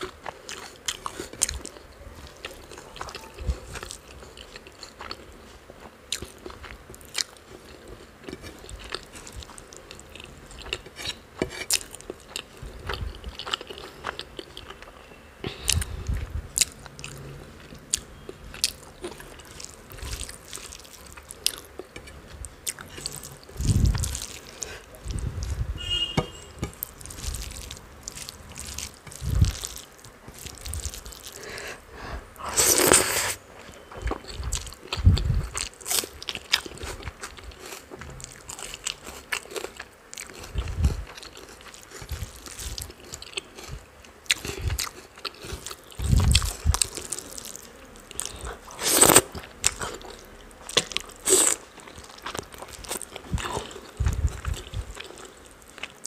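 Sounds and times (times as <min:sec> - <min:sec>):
chewing with mouth clicks: 0:00.0 - 0:25.6, 0:26.6 - 0:31.5, 0:32.6 - 0:56.0.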